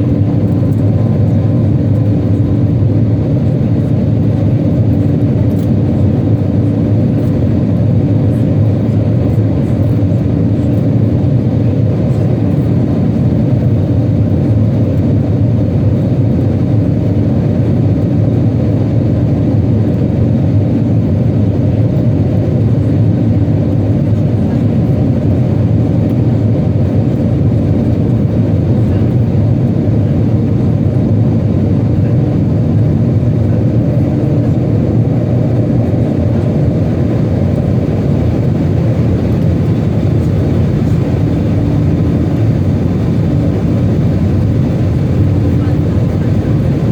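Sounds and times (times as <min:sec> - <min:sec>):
aircraft cabin engine drone: 0:00.0 - 0:46.9.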